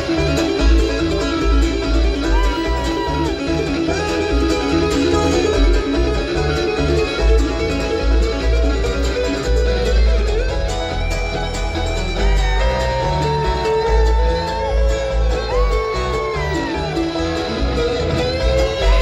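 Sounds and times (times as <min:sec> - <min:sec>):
acoustic guitars: 0:00.0 - 0:19.0
banjo: 0:00.0 - 0:19.0
mandolin: 0:00.0 - 0:19.0
upright bass: 0:00.0 - 0:19.0.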